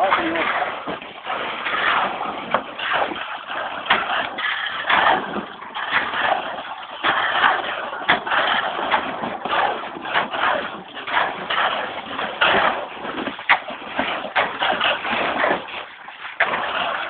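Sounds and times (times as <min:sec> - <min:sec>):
scraping noise: 0:00.0 - 0:17.0.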